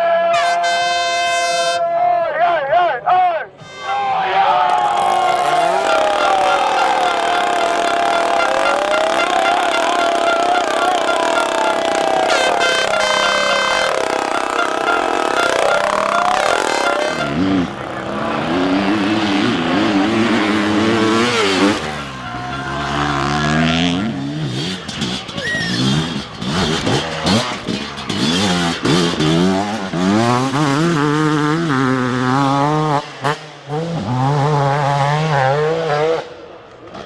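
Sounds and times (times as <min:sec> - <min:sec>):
dirt bike engine revving: 0:03.6 - 0:37.0.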